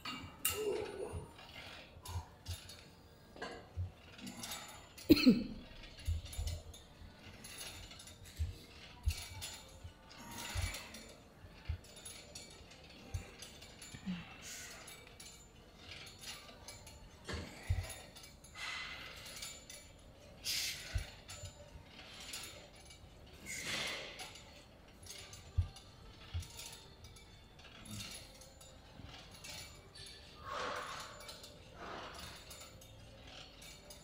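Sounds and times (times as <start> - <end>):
gym machine clicking and clanking: 0.0 - 34.0.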